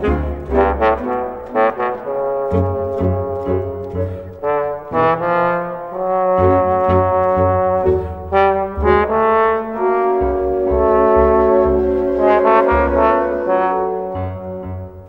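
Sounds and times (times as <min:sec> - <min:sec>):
background music with held notes: 0:00.0 - 0:15.0.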